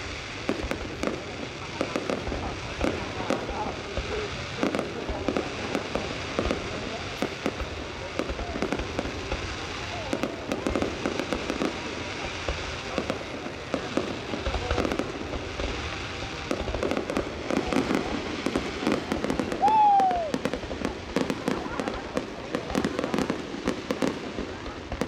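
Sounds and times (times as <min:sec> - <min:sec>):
crowd murmuring: 0:00.0 - 0:25.0
fireworks crackling and popping: 0:00.0 - 0:25.0.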